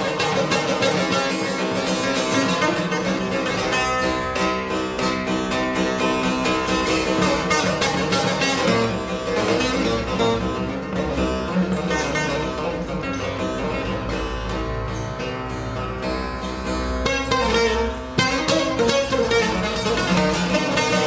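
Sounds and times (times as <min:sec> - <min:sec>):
plucked long-necked lute: 0:00.0 - 0:21.0.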